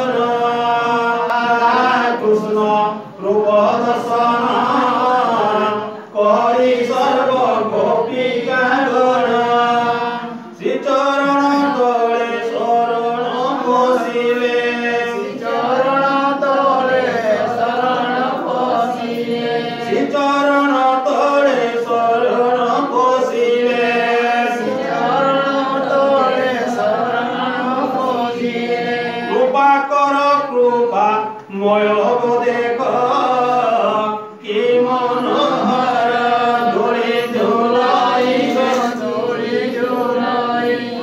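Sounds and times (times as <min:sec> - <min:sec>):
group singing devotional chant: 0:00.0 - 0:41.0.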